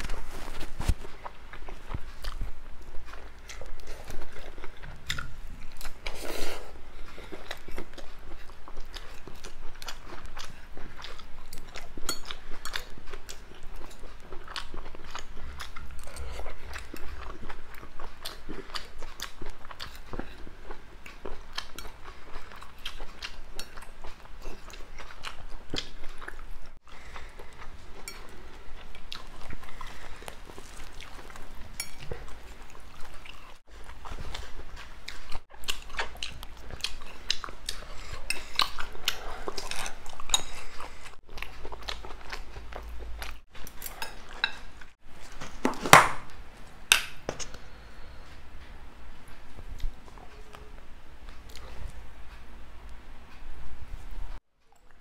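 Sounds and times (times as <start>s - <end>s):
person chewing food: 0.0s - 45.7s, 46.6s - 52.5s.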